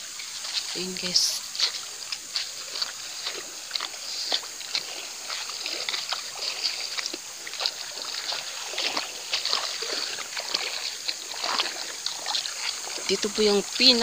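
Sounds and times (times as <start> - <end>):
river water splashing: 0.0 - 14.0.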